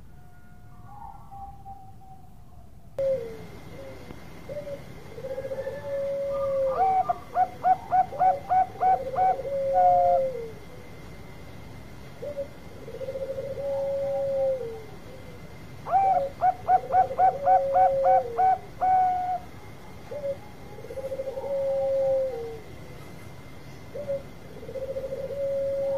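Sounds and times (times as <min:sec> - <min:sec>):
dove cooing: 0:00.0 - 0:11.0, 0:12.2 - 0:22.9, 0:23.8 - 0:25.9.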